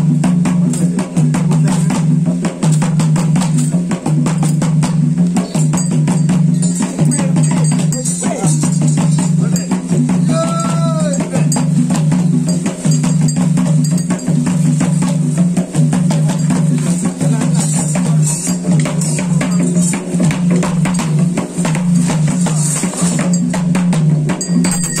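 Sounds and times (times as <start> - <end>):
fast drumming: 0.0 - 25.0
jingling metal percussion: 0.0 - 25.0.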